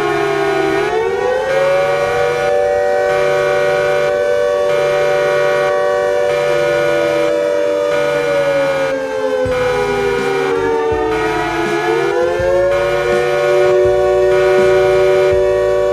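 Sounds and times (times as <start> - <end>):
low pulsing tone: 0.0 - 15.9
siren tones gliding: 0.0 - 15.9.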